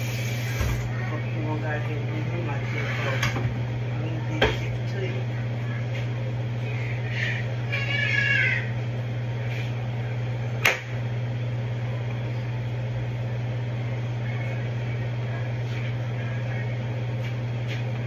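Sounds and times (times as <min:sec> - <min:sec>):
electric fan hum: 0:00.0 - 0:18.0.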